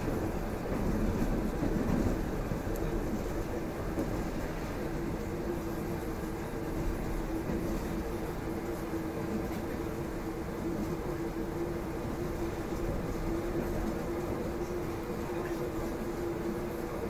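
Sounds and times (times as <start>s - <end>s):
steady train hum: 0.0s - 17.0s
train wheels rumbling on rails: 0.0s - 17.0s.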